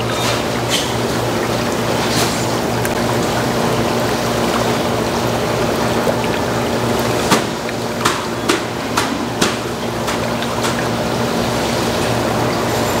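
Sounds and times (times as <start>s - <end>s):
low pump hum: 0.0s - 13.0s
water bubbling and churning: 0.0s - 13.0s.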